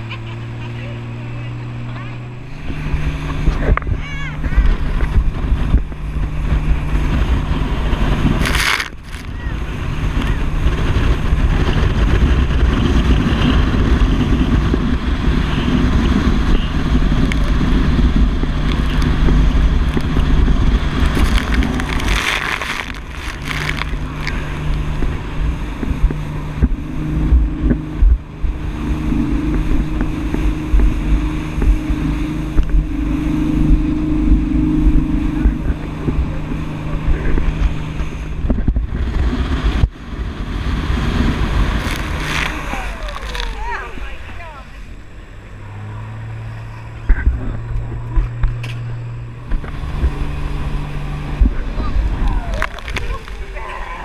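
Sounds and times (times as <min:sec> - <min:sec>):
speedboat engine running: 0:00.0 - 0:54.0
wind buffeting microphone: 0:00.0 - 0:54.0
water rushing and spray: 0:01.8 - 0:13.2, 0:14.0 - 0:47.0, 0:49.6 - 0:54.0
hull slapping water: 0:01.8 - 0:54.0.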